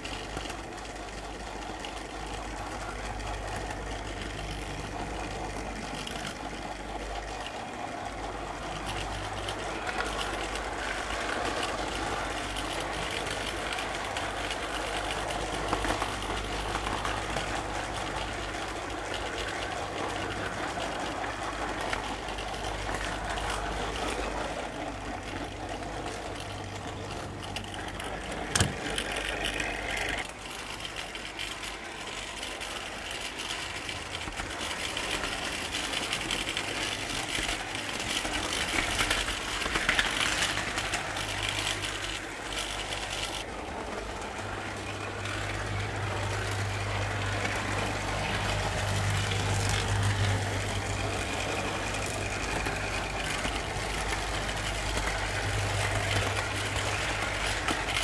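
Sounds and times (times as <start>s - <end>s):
wheel clatter over track: 0.0s - 58.0s.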